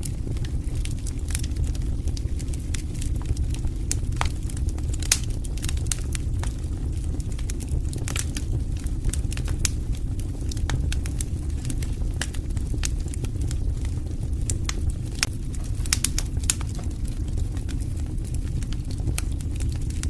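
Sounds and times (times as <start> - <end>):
fire pops and snaps: 0.0 - 20.0
low rumble of flames: 0.0 - 20.0.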